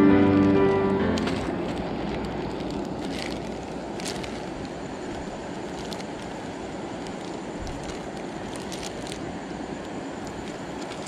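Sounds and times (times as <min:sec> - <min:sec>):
low outdoor rumble: 0:00.0 - 0:11.0
plastic bag crinkling: 0:00.2 - 0:11.0.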